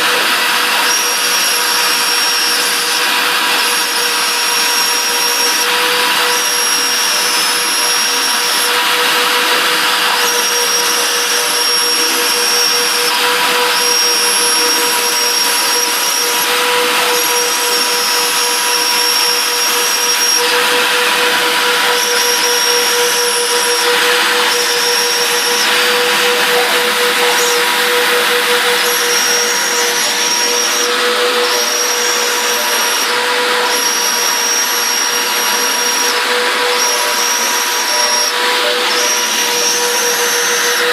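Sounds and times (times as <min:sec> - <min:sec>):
higher whine: 0:00.0 - 0:40.9
router spindle whine: 0:00.0 - 0:40.9.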